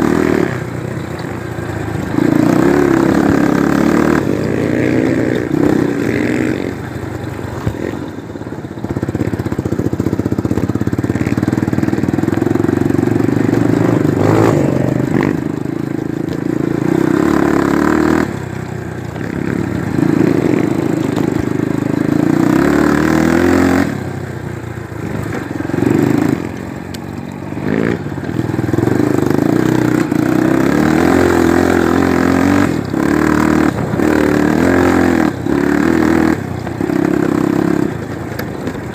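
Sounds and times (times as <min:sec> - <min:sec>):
motorcycle engine running under load: 0:00.0 - 0:38.9.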